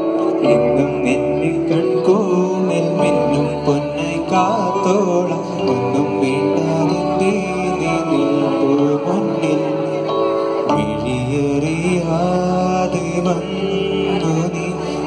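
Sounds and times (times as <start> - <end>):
bass line: 0.0 - 15.0
keyboard accompaniment: 0.0 - 15.0
man singing: 0.0 - 15.0.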